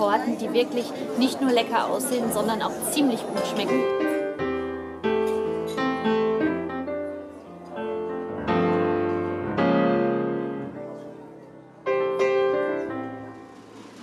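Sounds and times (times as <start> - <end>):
slow piano chords: 2.2 - 14.0.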